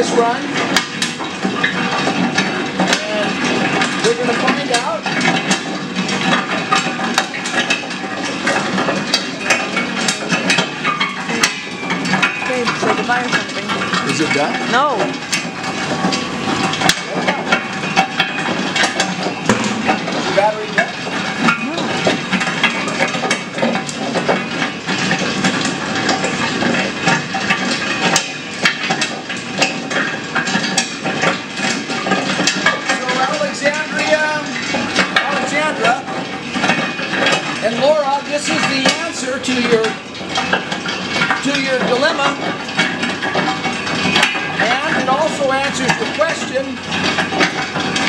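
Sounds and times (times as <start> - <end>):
nuts clattering and cracking: 0.0 - 48.0.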